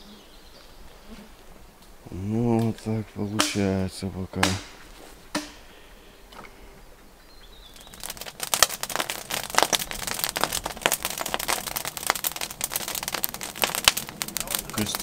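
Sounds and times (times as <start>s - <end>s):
small fire crackling: 0.0s - 15.0s.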